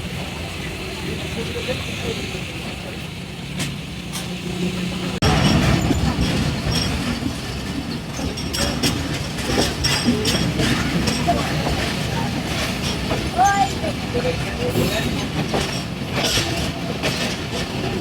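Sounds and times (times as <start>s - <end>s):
train low hum: 0.0s - 18.0s
train rumble: 0.0s - 18.0s.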